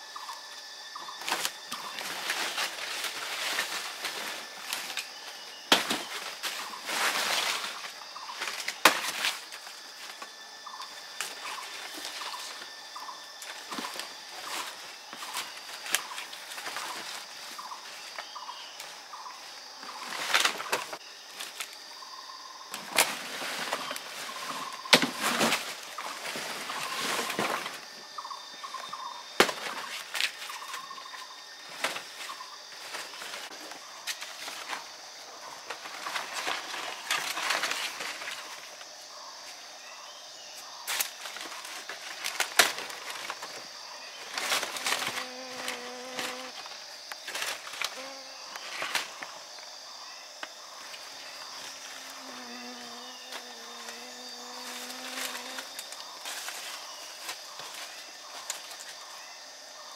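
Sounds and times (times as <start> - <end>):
high insect buzz: 0.0 - 59.9
banana leaves rustling: 0.1 - 59.9
movement through dry leaves: 0.2 - 59.6.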